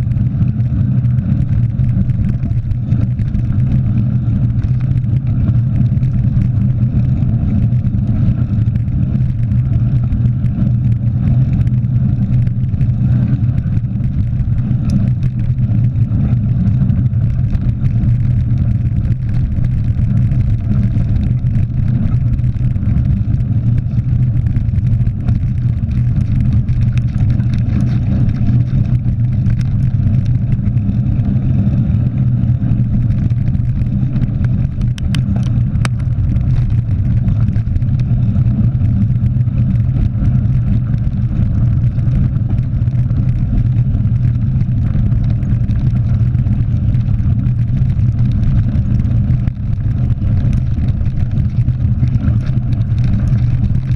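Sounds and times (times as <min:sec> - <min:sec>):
bike tyres rolling over gravel: 0:00.0 - 0:53.9
wind rumble on microphone: 0:00.0 - 0:53.9.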